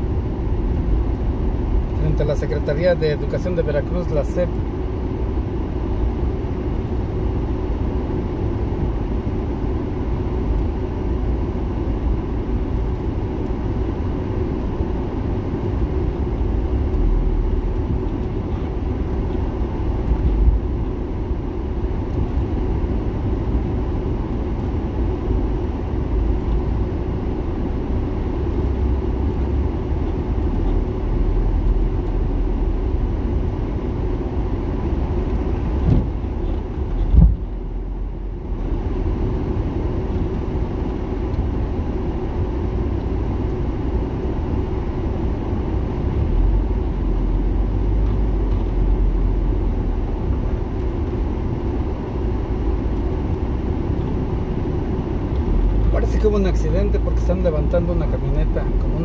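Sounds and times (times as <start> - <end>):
car driving in traffic: 0.0 - 59.0.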